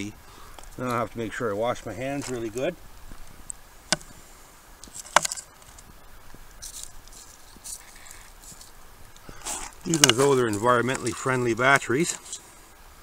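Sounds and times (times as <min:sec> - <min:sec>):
light rustling: 0:00.3 - 0:12.6.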